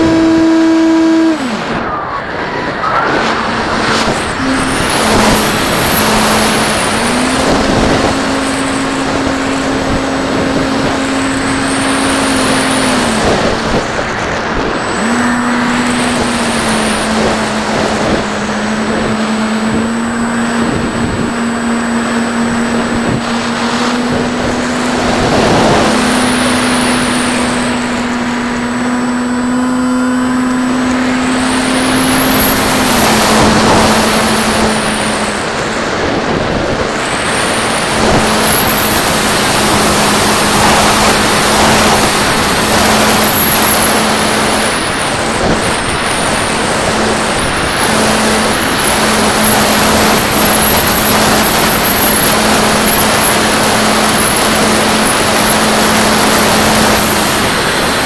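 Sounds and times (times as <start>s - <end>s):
electric motor and propeller droning: 0.0s - 58.0s
wind rush: 0.0s - 58.0s.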